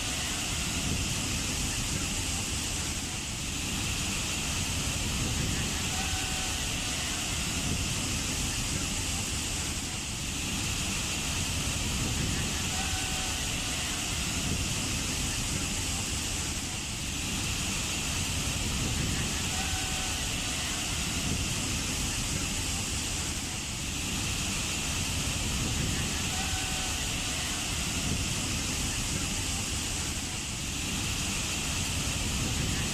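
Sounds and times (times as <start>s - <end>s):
waterfall roaring: 0.0s - 32.9s.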